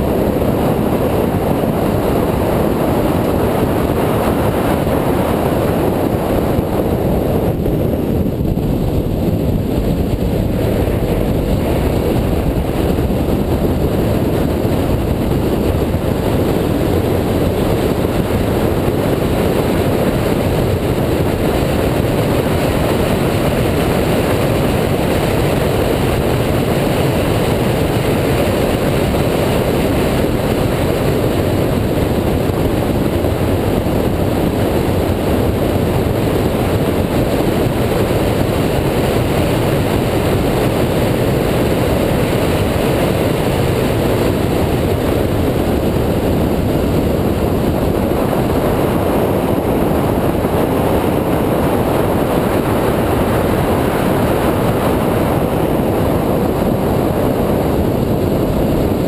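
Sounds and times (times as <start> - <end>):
car road noise: 0.0 - 59.0
wind rush: 0.0 - 59.0.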